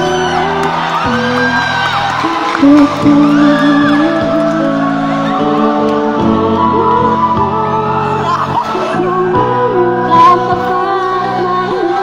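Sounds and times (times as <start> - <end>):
song with singing: 0.0 - 12.0.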